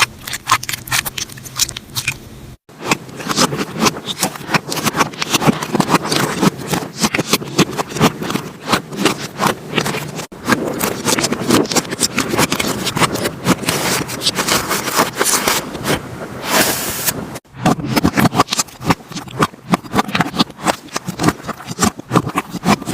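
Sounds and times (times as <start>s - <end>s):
slime squished by hands: 0.0s - 16.7s, 17.6s - 22.9s.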